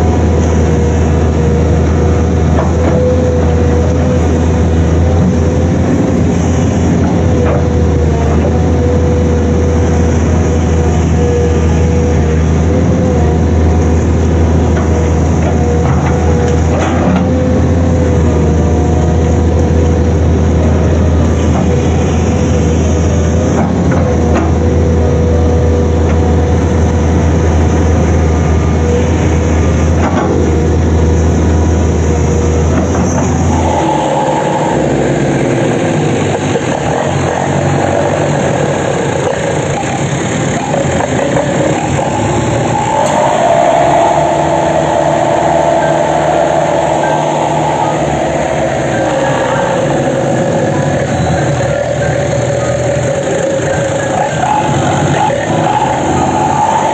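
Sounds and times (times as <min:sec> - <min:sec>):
excavator diesel engine humming: 0:00.0 - 0:56.9
tractor diesel engine running: 0:00.0 - 0:56.9.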